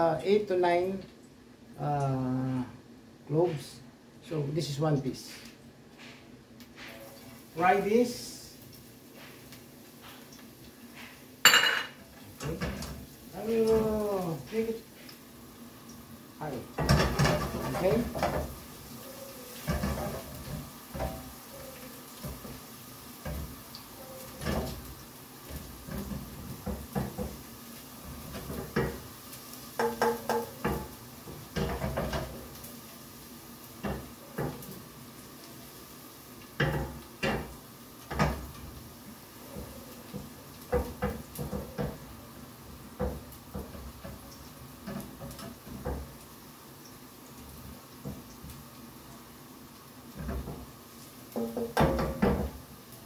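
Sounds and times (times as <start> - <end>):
low steady background noise: 0.0 - 53.0.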